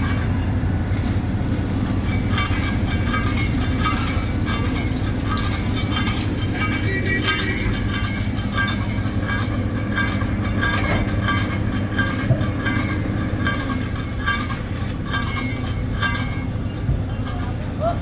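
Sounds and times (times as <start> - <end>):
paver diesel hum: 0.0 - 18.0
regular metallic clatter: 0.0 - 18.0.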